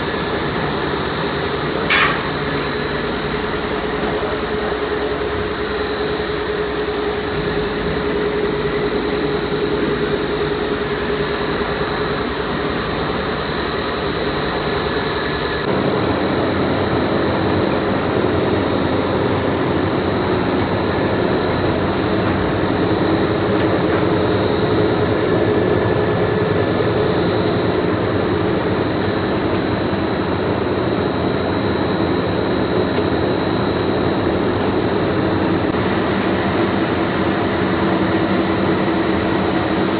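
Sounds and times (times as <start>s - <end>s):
busy mechanical noise: 0.0s - 39.9s
high machine whine: 0.0s - 39.9s
low machine hum: 0.0s - 39.9s.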